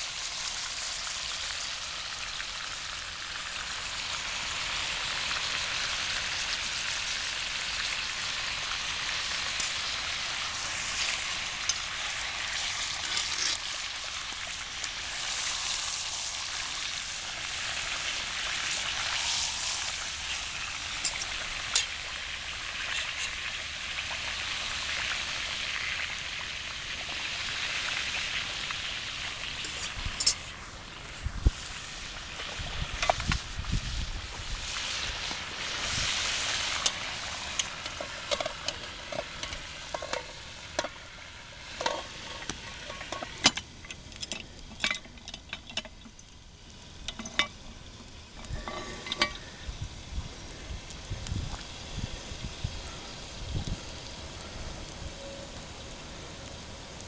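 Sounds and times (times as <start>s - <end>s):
meat sizzling in hot fat: 0.0s - 57.0s.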